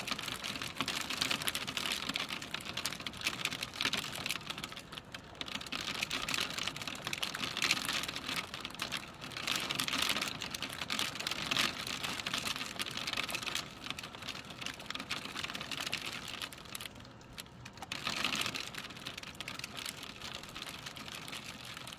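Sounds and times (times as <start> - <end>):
raindrops pattering: 0.0 - 21.9.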